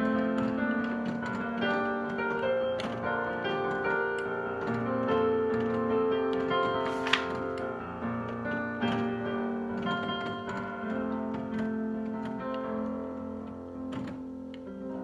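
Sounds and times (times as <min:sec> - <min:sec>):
digital piano playing: 0:00.0 - 0:15.0.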